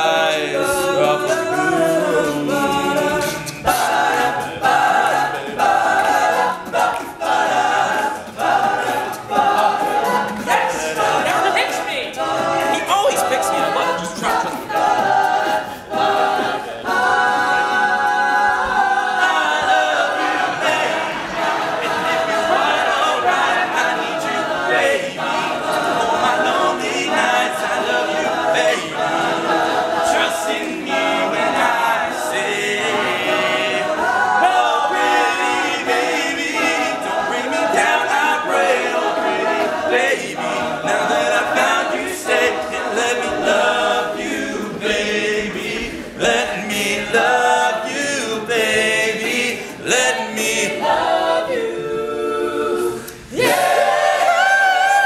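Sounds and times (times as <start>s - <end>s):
male a cappella group singing: 0.0s - 55.0s.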